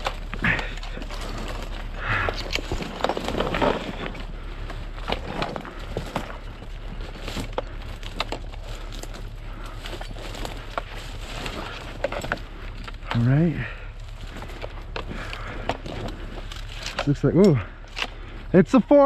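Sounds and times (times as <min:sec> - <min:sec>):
twigs snapping: 0:00.0 - 0:18.5
footsteps crunching dry brush: 0:00.0 - 0:19.0.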